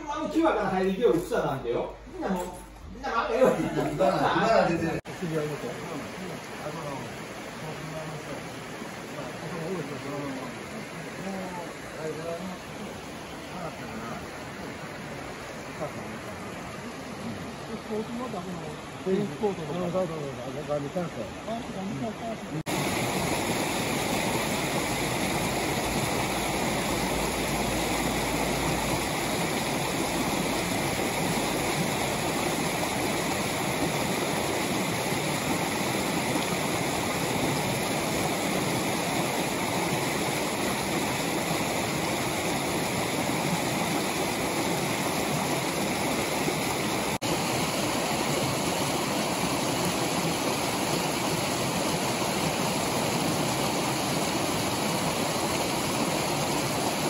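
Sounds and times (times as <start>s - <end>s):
river running over rocks: 3.3s - 57.0s.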